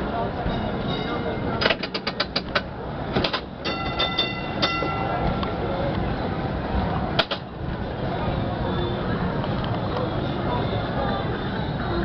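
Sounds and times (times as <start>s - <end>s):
tram running: 0.0s - 12.0s.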